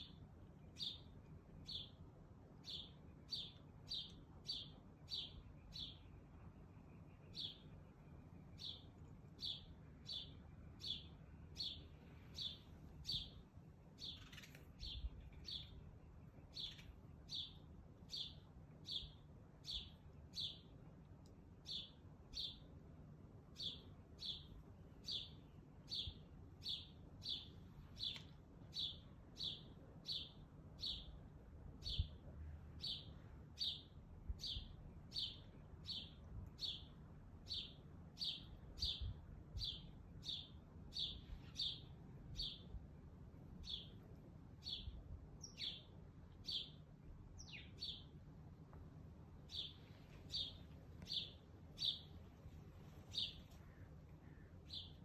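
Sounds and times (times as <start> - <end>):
bird chirping: 0.0 - 2.0, 2.6 - 13.4, 14.0 - 20.7, 21.6 - 22.7, 23.6 - 31.2, 32.8 - 42.8, 43.6 - 46.8, 47.4 - 48.2, 49.5 - 52.2, 52.9 - 55.0
low steady hum: 0.0 - 55.0.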